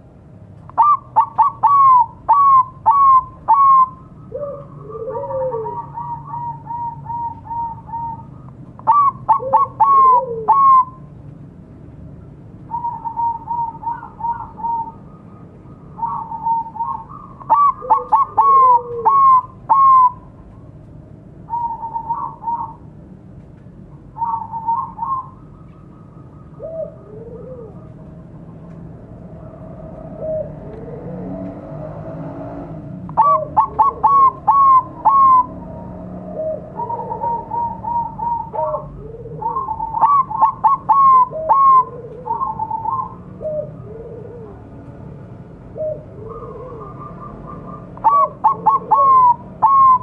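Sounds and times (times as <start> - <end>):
dove cooing song: 0.6 - 11.1, 12.6 - 20.4, 21.4 - 22.9, 24.0 - 50.0.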